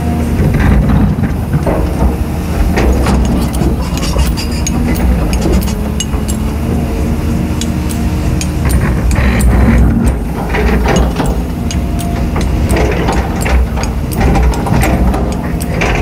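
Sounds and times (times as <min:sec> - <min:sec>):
excavator diesel engine running: 0:00.0 - 0:16.0
rock clanking against steel bucket: 0:00.4 - 0:06.8, 0:07.6 - 0:16.0.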